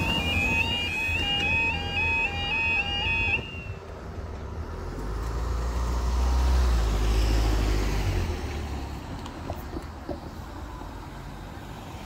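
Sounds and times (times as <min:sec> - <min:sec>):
road vehicle passing: 0:00.0 - 0:12.0.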